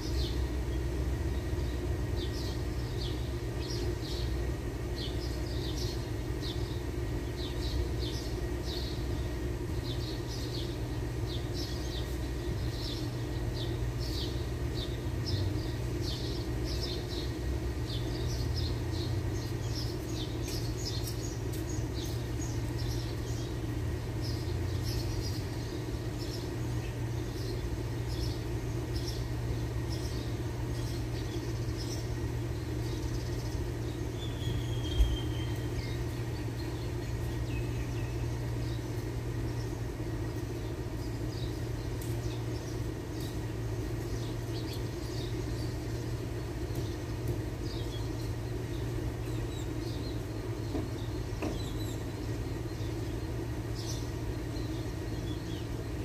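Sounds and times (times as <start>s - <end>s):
birds chirping: 0.0s - 56.0s
low machine hum: 0.0s - 56.0s.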